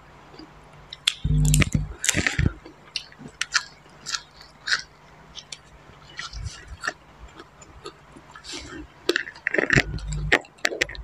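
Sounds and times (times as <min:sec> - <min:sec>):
biting and chewing crunches: 0:00.4 - 0:11.0.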